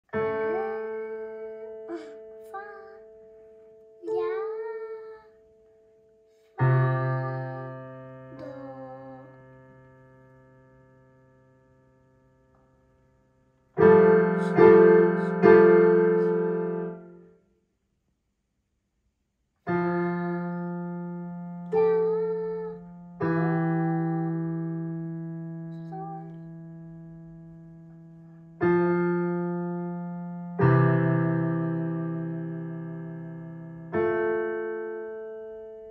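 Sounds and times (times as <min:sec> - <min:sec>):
digital piano melody: 0:00.1 - 0:17.3, 0:19.7 - 0:35.9.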